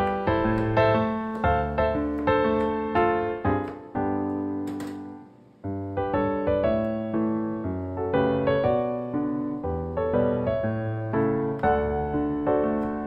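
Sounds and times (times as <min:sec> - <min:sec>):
solo piano tune: 0:00.0 - 0:13.0.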